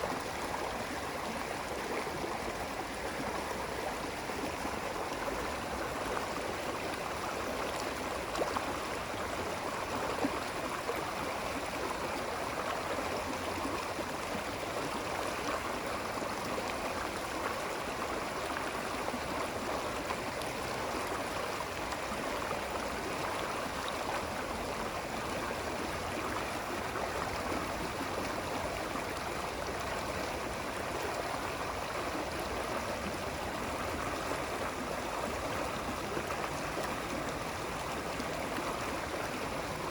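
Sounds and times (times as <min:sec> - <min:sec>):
running water rushing and gurgling: 0:00.0 - 0:39.9.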